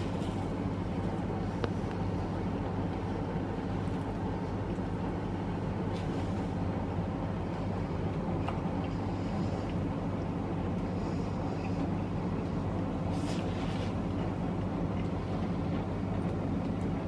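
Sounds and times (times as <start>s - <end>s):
oven humming and hissing: 0.0s - 17.0s.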